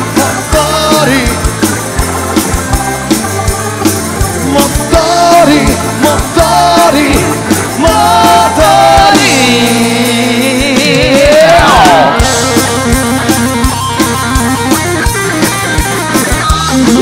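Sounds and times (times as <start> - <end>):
drums steady beat: 0.0 - 17.0
pop-rock band playing: 0.0 - 17.0.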